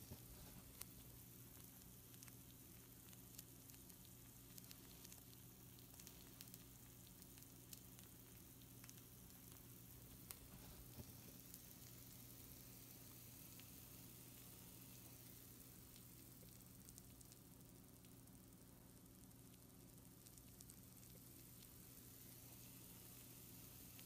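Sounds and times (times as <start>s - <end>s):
food sizzling on baking sheet: 0.0s - 24.0s
small crackles and pops: 0.0s - 24.0s
steady low hum: 0.0s - 24.0s.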